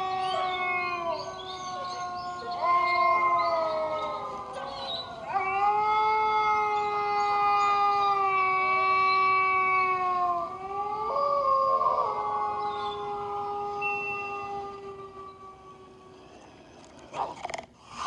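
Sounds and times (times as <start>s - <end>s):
dogs howling: 0.0s - 16.7s.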